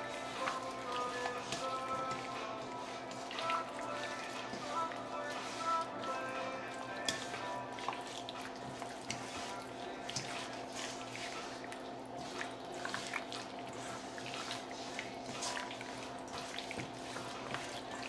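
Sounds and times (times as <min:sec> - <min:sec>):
wet squelching of raw chicken: 0:00.0 - 0:18.0.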